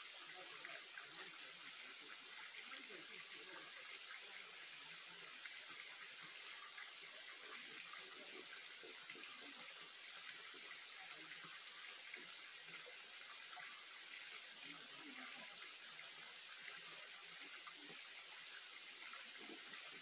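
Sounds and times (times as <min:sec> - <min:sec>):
high insect drone: 0:00.0 - 0:20.0
stream water flowing: 0:00.0 - 0:20.0.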